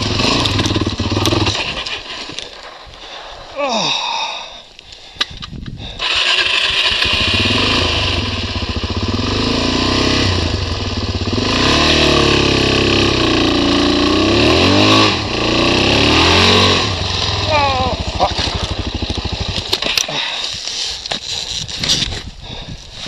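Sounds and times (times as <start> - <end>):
motorcycle engine revving: 0.0 - 2.9, 6.0 - 21.7.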